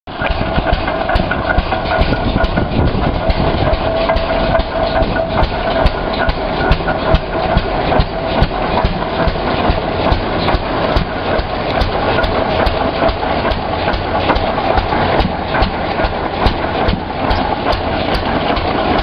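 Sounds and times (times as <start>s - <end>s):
engine idling with exhaust chuffs: 0.1s - 19.0s.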